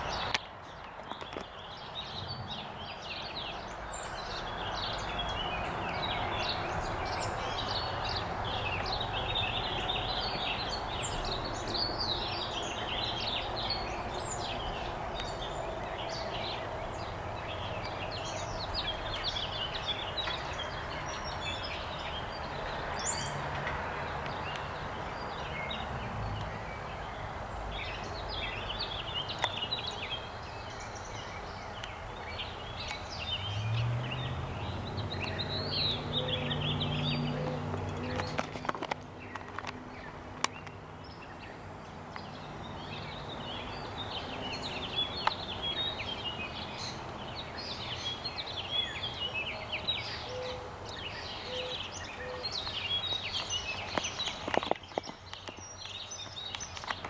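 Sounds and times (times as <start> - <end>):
birds chirping and singing: 0.0 - 57.0
steady background noise: 0.0 - 57.0.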